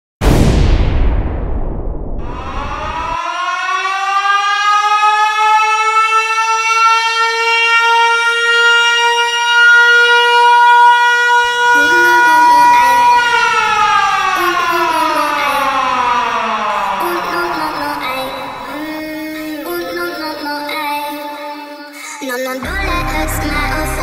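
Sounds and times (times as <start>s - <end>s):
siren wailing: 2.2s - 22.0s.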